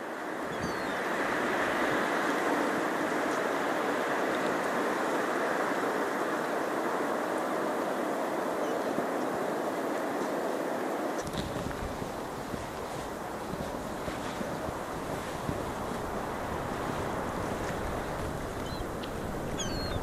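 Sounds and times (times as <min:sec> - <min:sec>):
waves washing against rocks: 0:01.0 - 0:20.0.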